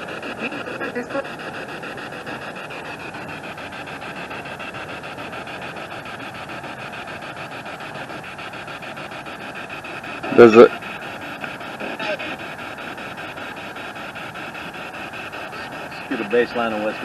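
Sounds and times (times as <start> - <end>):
radio static pulsing: 0.0 - 17.0.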